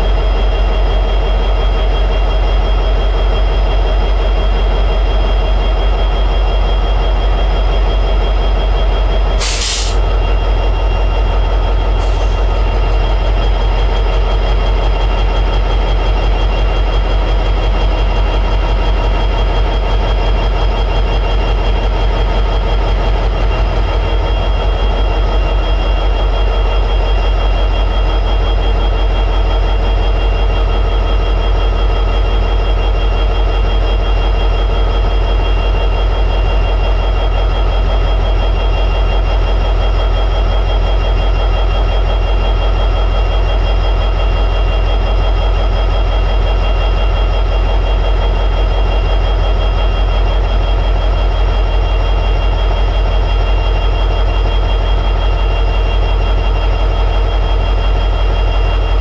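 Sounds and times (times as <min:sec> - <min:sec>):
locomotive diesel engine idling: 0:03.8 - 0:33.2, 0:33.8 - 0:59.0.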